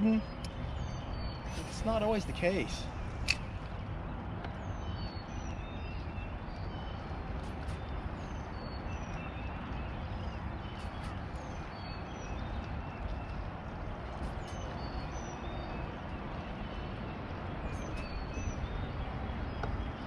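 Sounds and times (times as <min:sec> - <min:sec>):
birds singing: 0:00.0 - 0:20.0
steady low rumble: 0:00.0 - 0:20.0.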